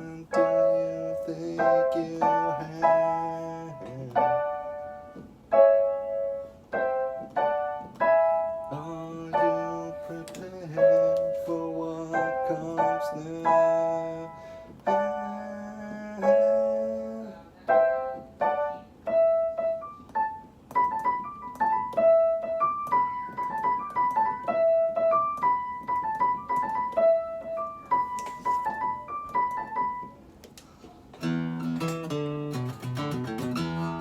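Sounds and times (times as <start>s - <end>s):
piano melody: 0.0s - 30.4s, 31.1s - 34.0s.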